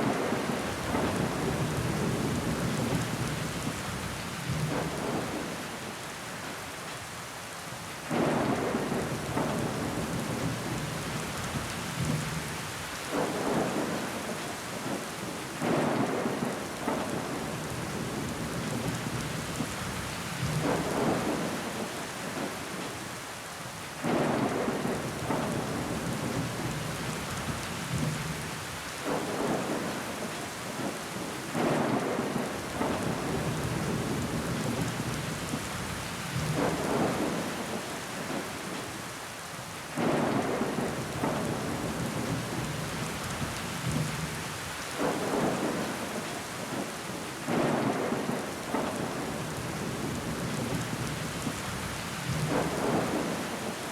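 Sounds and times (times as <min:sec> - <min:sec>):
rain on window glass: 0:00.0 - 0:53.9.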